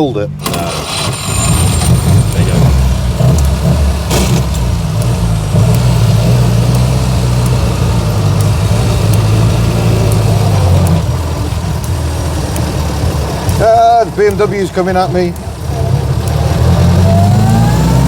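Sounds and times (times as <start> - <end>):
small car engine running: 0.4 - 18.0.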